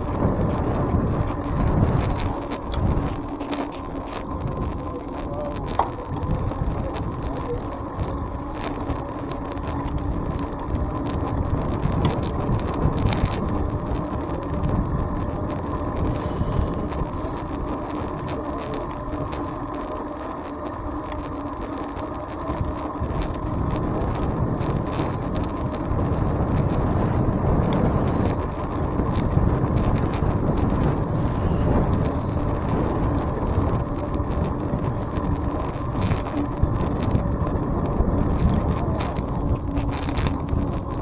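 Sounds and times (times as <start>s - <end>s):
bicycle clicks and rattles: 0.0s - 41.0s
road noise: 0.0s - 41.0s
wind on microphone: 0.0s - 41.0s.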